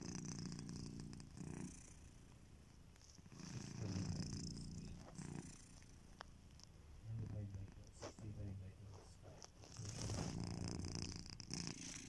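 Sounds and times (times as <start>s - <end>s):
cat snoring: 0.0s - 2.2s, 3.3s - 5.9s, 7.1s - 12.0s.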